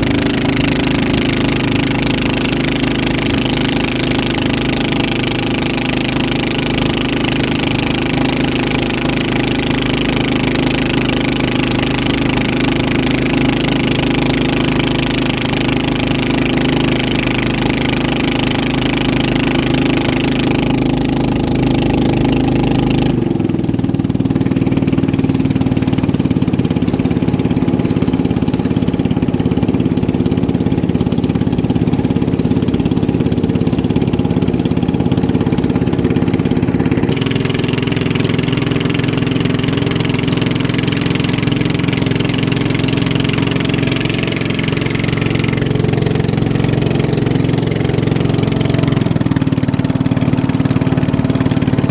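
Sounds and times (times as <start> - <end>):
racing boat engines: 0.0 - 51.9.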